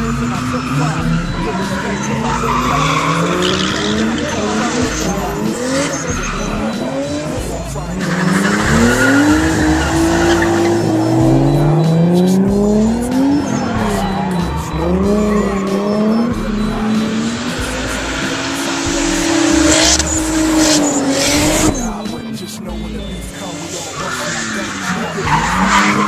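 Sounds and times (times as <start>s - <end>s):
tyre squeal: 0.0s - 22.0s, 22.7s - 26.0s
car engines revving: 0.0s - 26.0s.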